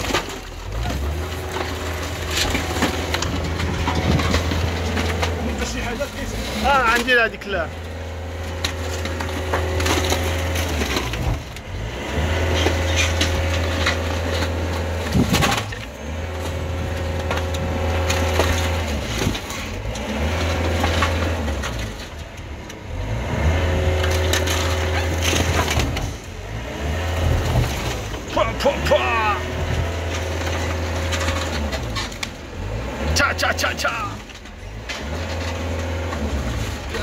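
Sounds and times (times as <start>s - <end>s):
wood and cardboard cracking: 0.0s - 23.0s, 23.6s - 37.0s.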